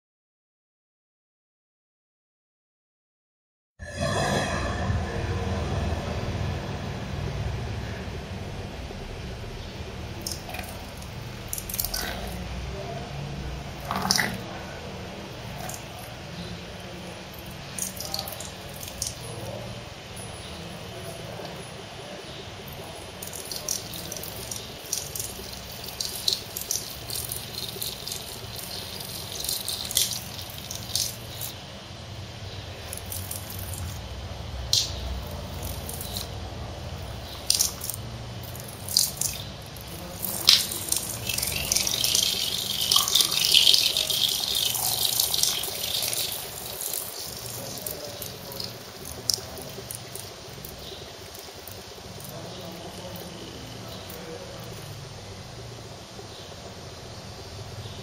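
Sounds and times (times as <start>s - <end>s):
urine splashing in urinal: 9.6s - 31.6s, 32.5s - 58.0s.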